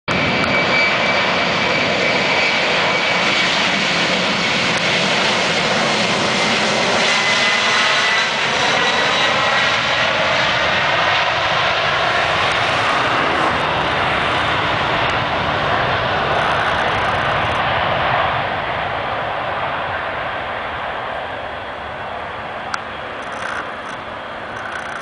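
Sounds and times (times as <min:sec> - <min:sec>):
jet engines with fan whine: 0:00.1 - 0:25.0.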